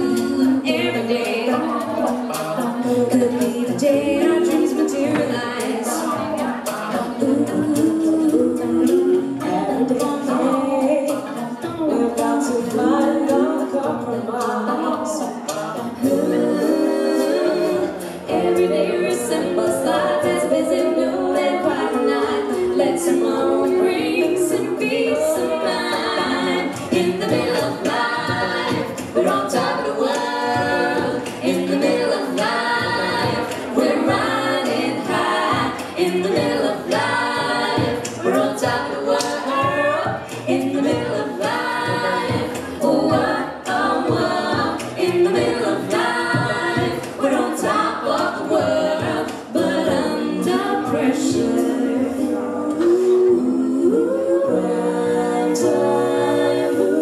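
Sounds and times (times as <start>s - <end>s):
a cappella group singing in harmony: 0.0s - 57.0s.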